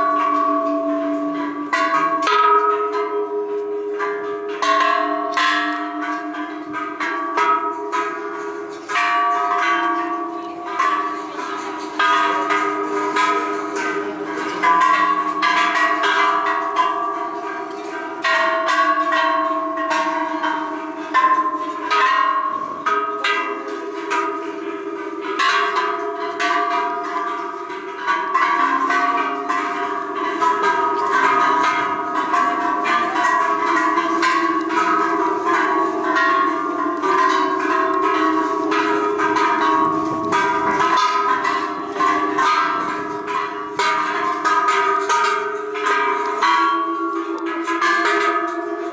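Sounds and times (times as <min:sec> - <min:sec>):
metal bells ringing: 0:00.0 - 0:48.9.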